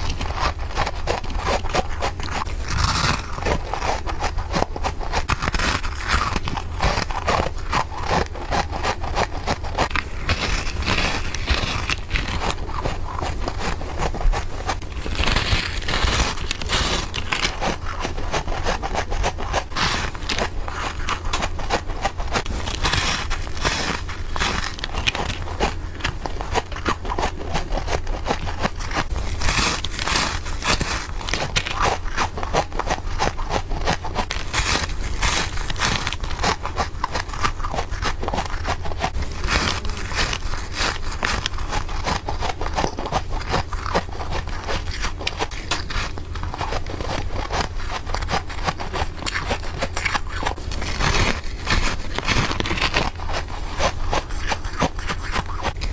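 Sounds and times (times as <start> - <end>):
frost being crunched by chewing: 0.0 - 55.9.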